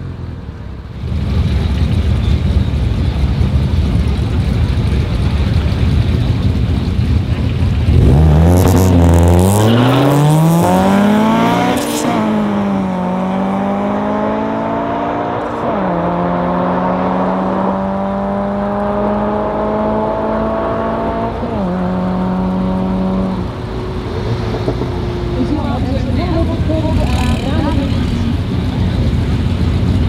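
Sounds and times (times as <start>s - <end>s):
cars accelerating hard: 4.0s - 30.0s.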